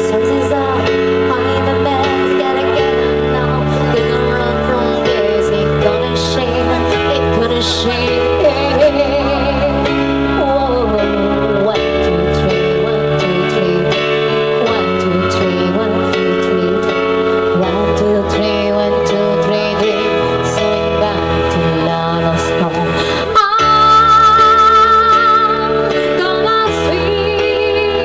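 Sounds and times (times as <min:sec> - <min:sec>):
person singing: 0:00.0 - 0:28.0.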